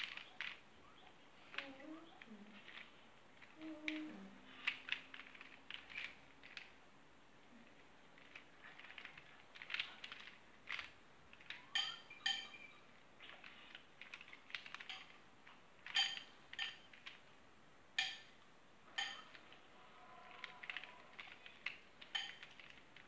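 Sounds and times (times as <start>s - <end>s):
plastic puzzle layers clicking: 0.0s - 6.8s, 7.6s - 23.0s.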